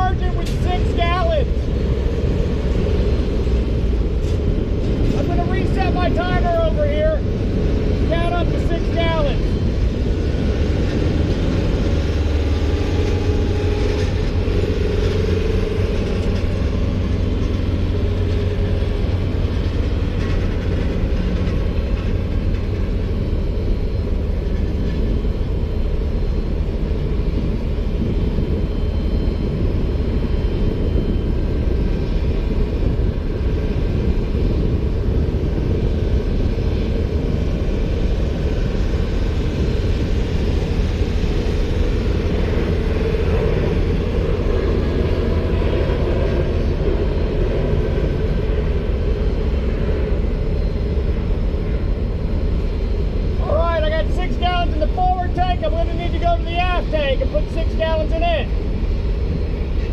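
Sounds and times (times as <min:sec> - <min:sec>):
truck engine and pump rumbling: 0:00.0 - 0:59.9.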